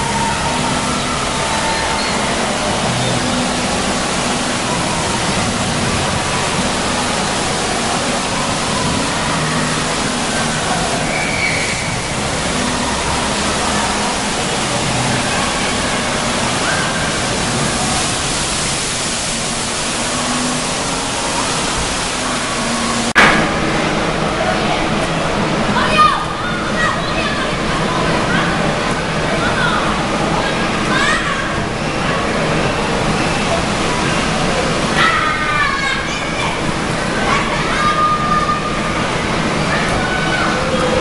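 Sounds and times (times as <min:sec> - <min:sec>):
water pouring and splashing: 0:00.0 - 0:41.0.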